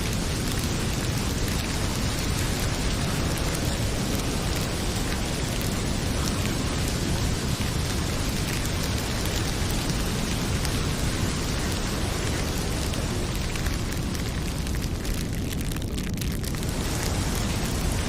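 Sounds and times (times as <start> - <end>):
fireplace fire crackling: 0.0 - 18.0
heavy rain pouring: 0.0 - 18.0.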